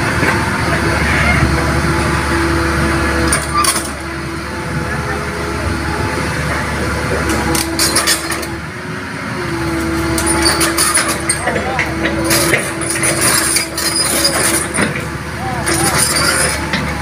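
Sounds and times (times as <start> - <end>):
excavator diesel engine running: 0.0 - 17.0
hydraulic whine: 0.0 - 17.0.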